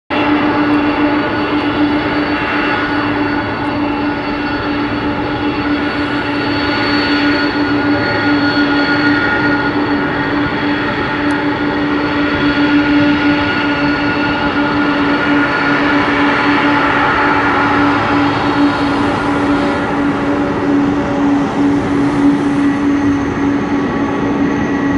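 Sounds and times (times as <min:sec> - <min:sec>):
jet engines humming: 0:00.1 - 0:24.9.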